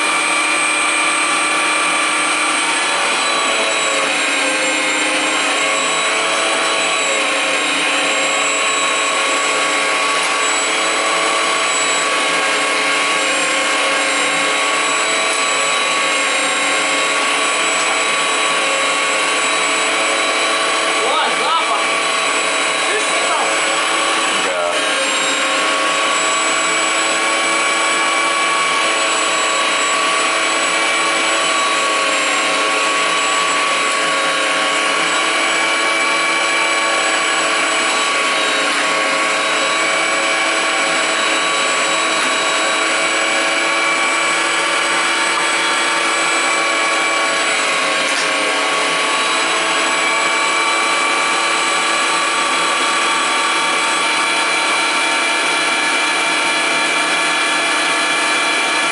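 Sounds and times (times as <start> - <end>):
electric meat grinder whining: 0.0 - 58.9.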